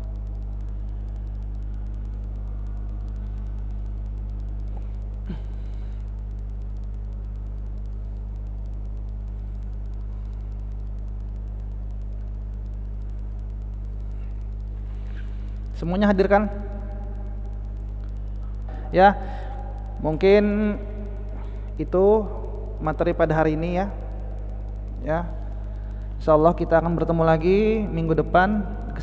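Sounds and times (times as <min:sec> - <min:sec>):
electrical mains hum: 0:00.0 - 0:29.0
faint tick: 0:00.0 - 0:29.0.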